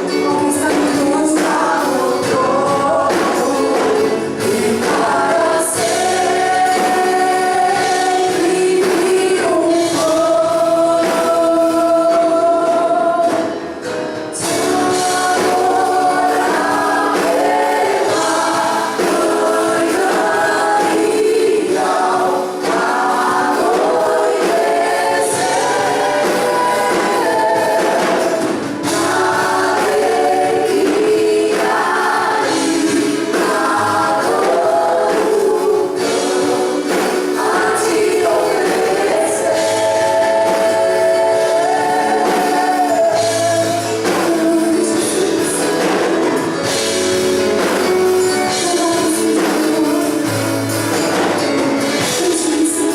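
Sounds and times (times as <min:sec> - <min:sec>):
choir singing gospel song: 0:00.0 - 0:52.9
worship band accompaniment: 0:00.0 - 0:52.9.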